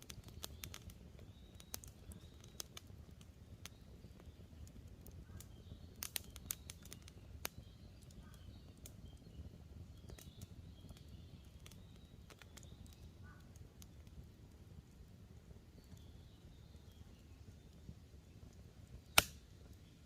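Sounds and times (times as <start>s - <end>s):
campfire crackling and popping: 0.0s - 20.0s
small birds chirping: 0.0s - 20.0s.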